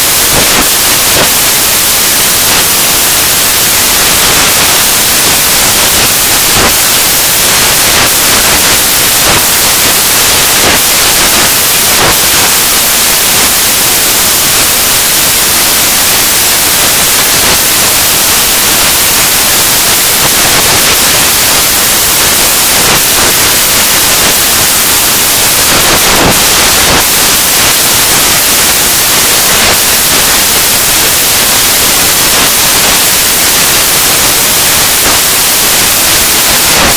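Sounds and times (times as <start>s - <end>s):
loud static hiss: 0.0s - 36.9s.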